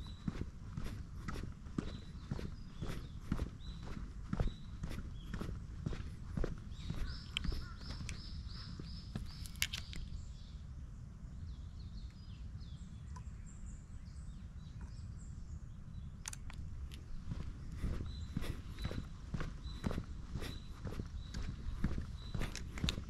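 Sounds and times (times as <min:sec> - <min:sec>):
bird chirps: 0:00.0 - 0:10.6, 0:11.5 - 0:23.0
wind rumble on microphone: 0:00.0 - 0:23.0.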